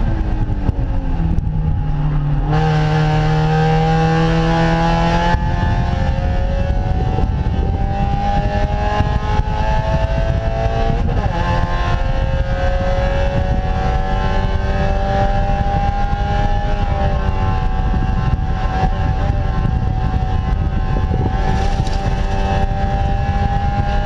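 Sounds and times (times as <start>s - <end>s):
heavy wind: 0.0s - 24.0s
race car engine at high revs: 0.0s - 24.0s
road rumble: 0.0s - 24.0s.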